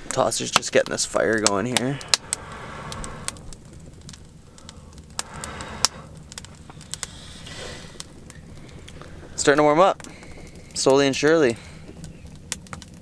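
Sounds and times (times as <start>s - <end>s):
low fire rush: 0.0s - 13.0s
wood fire crackling: 0.0s - 13.0s.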